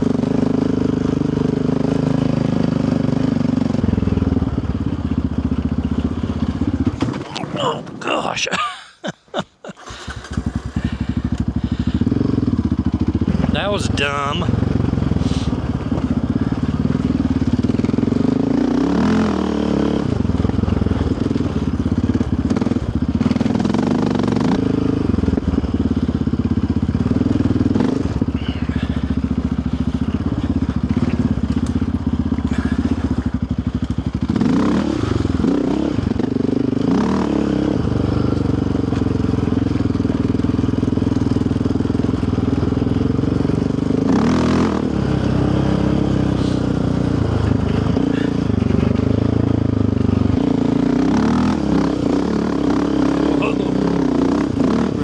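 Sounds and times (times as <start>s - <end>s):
quad engine running: 0.0s - 8.8s, 9.7s - 55.0s.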